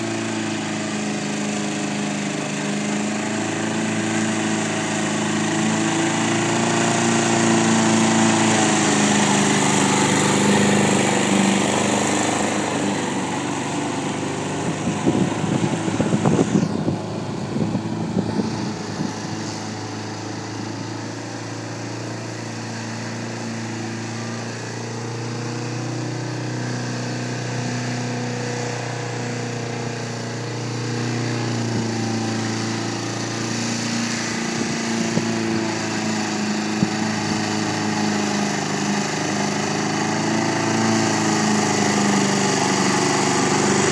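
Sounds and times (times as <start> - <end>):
lawn mower engine running: 0.0 - 43.9
rough uneven engine clatter: 0.0 - 43.9.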